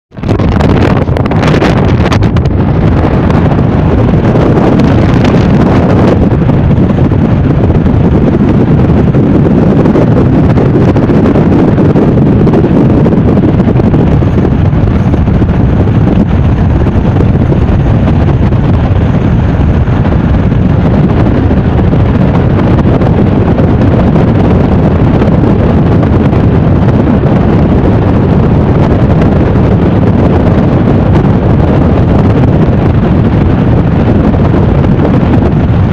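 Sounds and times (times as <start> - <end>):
road noise: 0.1 - 35.9
wind buffeting microphone: 0.1 - 35.9.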